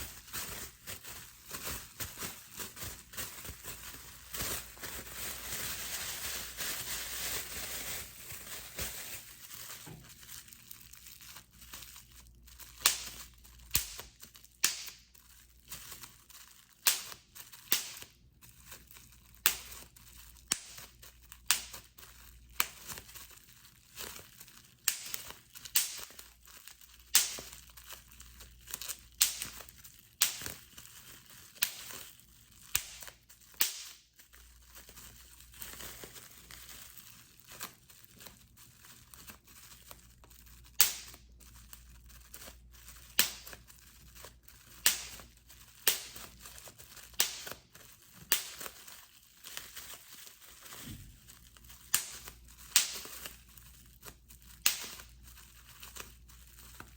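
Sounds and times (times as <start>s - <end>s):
bubble wrap crinkling: 0.0s - 56.9s
bubble wrap popping: 0.0s - 56.9s.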